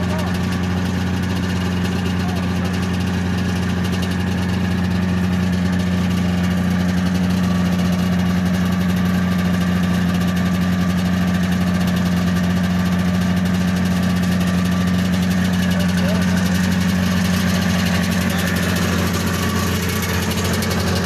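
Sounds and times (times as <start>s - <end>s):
snowmobile engine idling: 0.0s - 21.0s.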